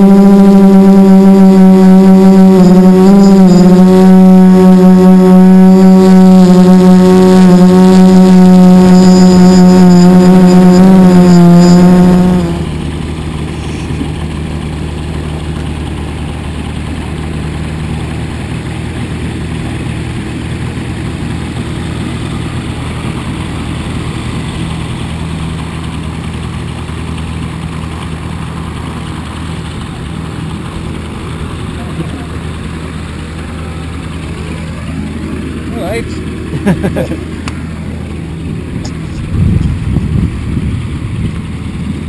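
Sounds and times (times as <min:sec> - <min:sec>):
loud droning note: 0:00.0 - 0:41.9
light aircraft engine idling: 0:00.0 - 0:42.0.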